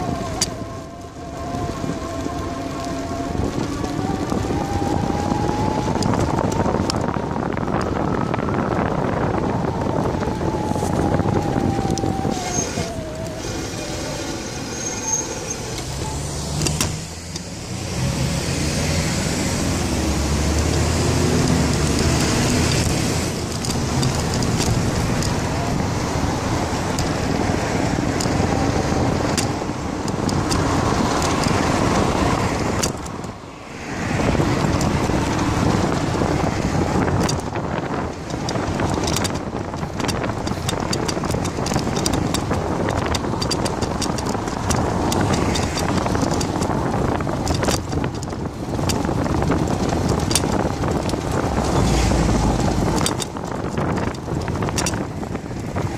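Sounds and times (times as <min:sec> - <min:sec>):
cars passing: 0:00.0 - 0:55.9.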